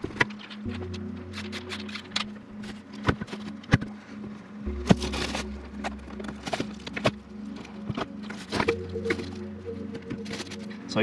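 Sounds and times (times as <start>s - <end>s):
low hum: 0.5s - 11.0s.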